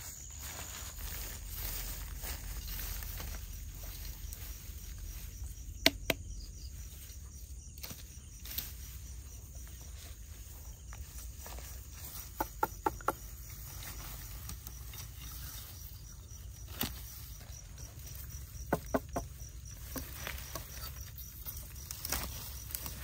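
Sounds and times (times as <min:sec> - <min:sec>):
faint pulsing insect chirp: 0:00.0 - 0:23.0.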